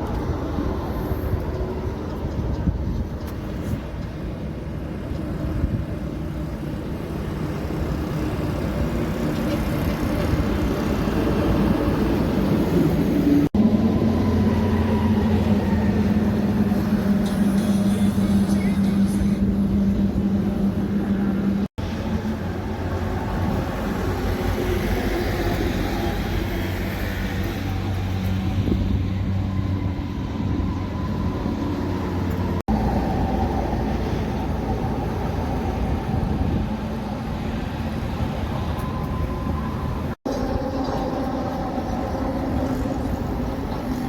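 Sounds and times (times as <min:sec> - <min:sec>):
tyre and road noise: 0:00.0 - 0:44.0
heavy truck engine drone: 0:04.2 - 0:44.0.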